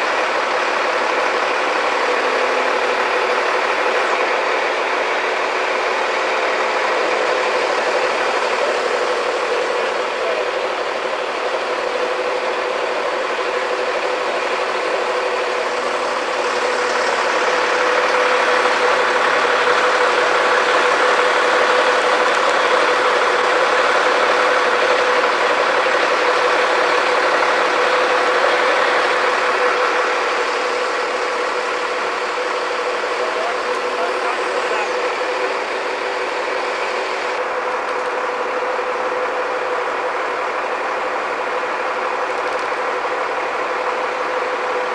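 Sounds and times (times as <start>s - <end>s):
heavy machinery engine humming: 0.0s - 44.9s.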